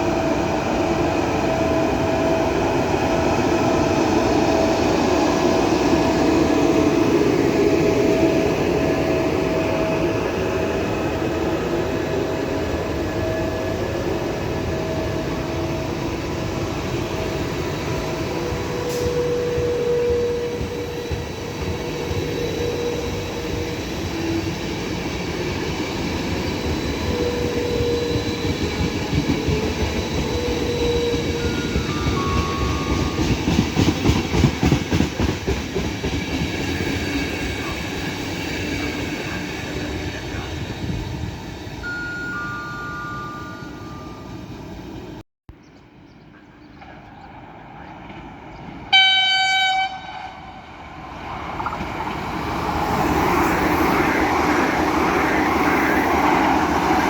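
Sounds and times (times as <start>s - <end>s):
electric train whining: 0.0s - 45.2s, 48.9s - 57.0s
train rumble: 0.0s - 45.2s, 46.3s - 57.0s.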